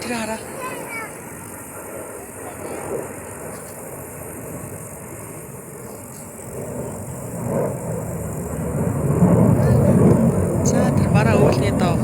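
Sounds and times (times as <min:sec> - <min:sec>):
aircraft engine rumbling rush: 0:00.0 - 0:12.0.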